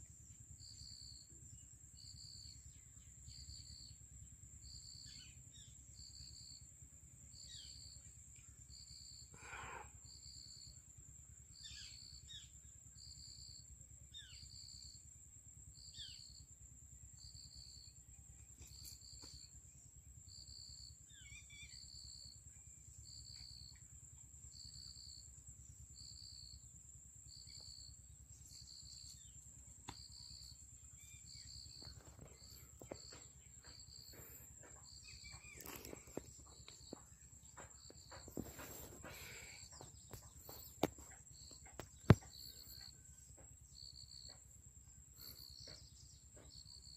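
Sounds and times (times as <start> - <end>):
insect chirping: 0.0 - 46.9
insects trilling: 0.0 - 46.9.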